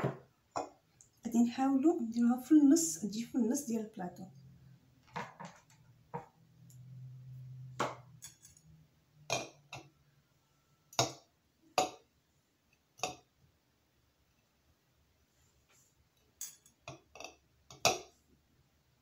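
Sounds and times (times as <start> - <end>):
low steady hum: 0.2 - 19.0.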